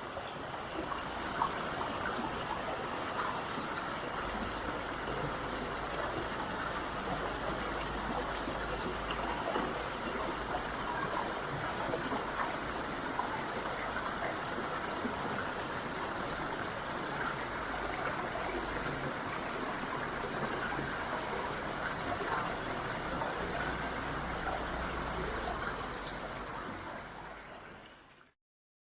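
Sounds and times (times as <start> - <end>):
steady rain falling: 0.0 - 28.2.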